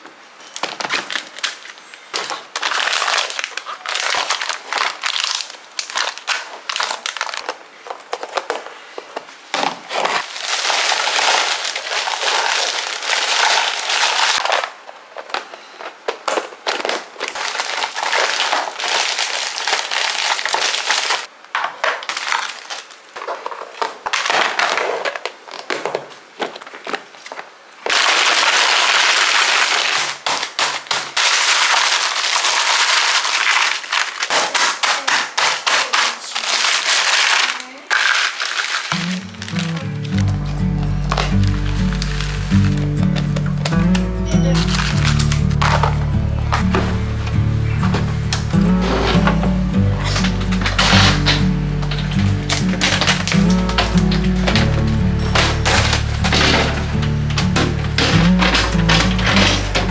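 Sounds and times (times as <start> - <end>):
plastic bags crinkling: 0.0 - 59.9.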